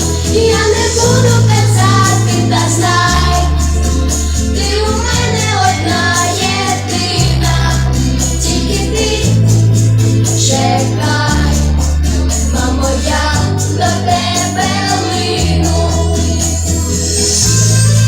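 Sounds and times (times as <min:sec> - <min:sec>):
person singing: 0:00.0 - 0:18.0
pop backing music: 0:00.0 - 0:18.0.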